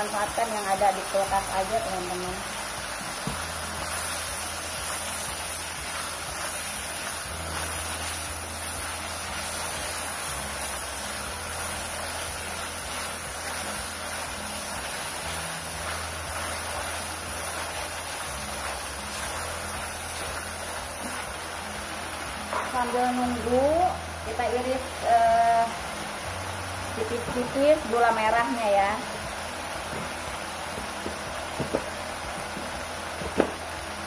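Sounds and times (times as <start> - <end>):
chicken sizzling in a wok: 0.0 - 34.0.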